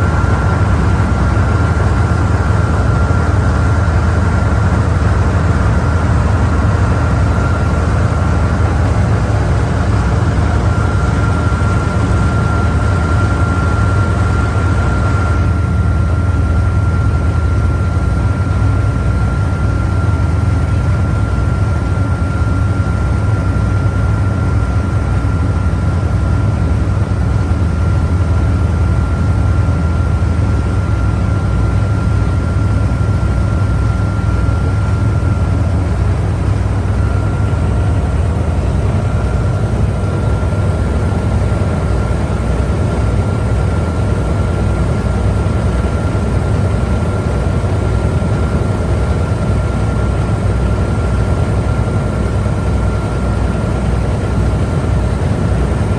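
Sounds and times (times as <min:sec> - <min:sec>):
boat engine drone: 0:00.0 - 0:55.9
faint steady whine: 0:00.0 - 0:55.9.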